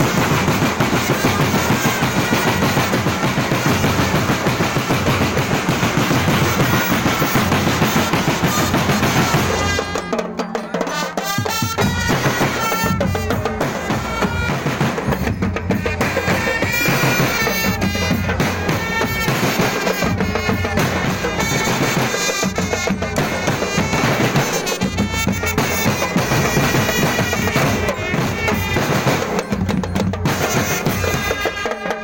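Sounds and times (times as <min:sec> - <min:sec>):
reedy wind instrument melody: 0:00.0 - 0:32.0
steady drumming: 0:00.0 - 0:32.0.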